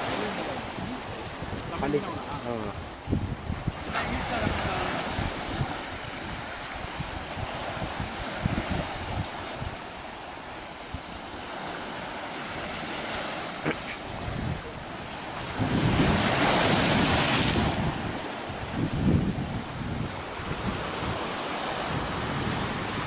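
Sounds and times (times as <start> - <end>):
wind buffeting microphone: 0.0 - 10.2, 14.0 - 23.0
surf breaking on beach: 0.0 - 23.0.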